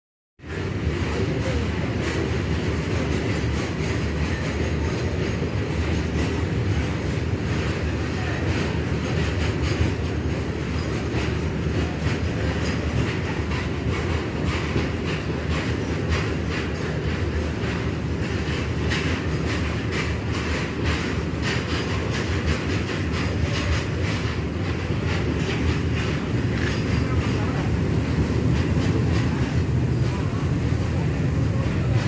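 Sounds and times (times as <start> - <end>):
freight train rumbling past: 0.4 - 32.0
wheels clacking over rail joints: 0.4 - 32.0.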